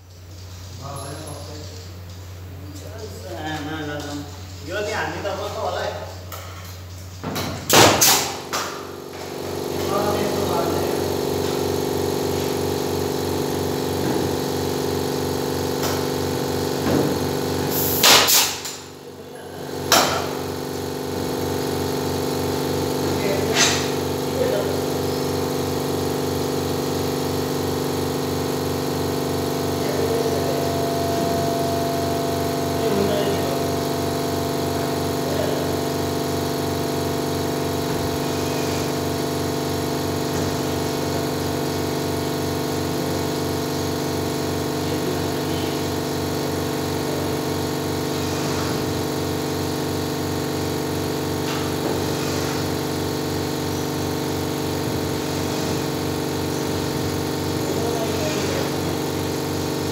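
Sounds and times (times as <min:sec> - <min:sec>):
motor humming steadily: 0:00.0 - 0:59.9.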